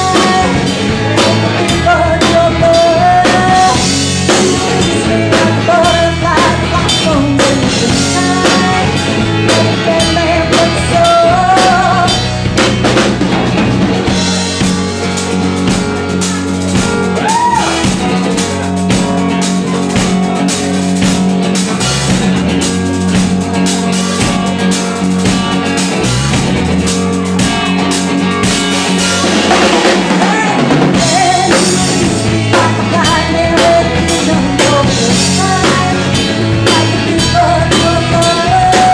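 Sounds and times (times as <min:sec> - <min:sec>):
drum kit: 0:00.0 - 0:38.9
live rock band playing: 0:00.0 - 0:38.9.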